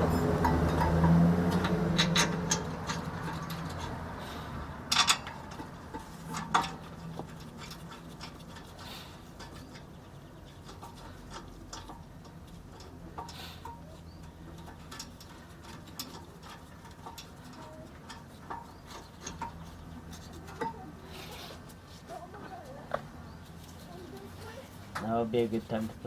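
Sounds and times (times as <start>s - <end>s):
metal clinks and knocks: 0.0s - 26.0s.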